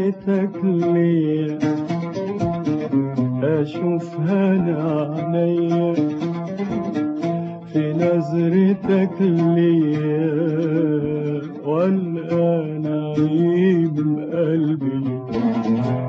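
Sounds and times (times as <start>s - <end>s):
man singing: 0.0s - 6.8s, 7.6s - 16.0s
oud plucking: 0.0s - 16.0s.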